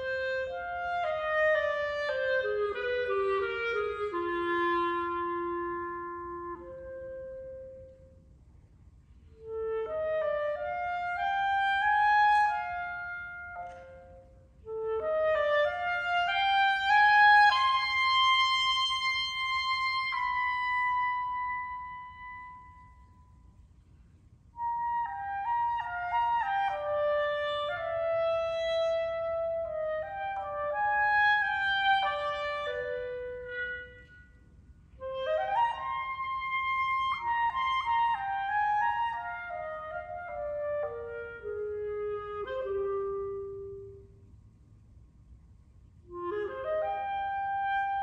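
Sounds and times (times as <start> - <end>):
clarinet: 0.0 - 8.3, 9.1 - 23.6, 24.5 - 44.3, 46.0 - 48.0.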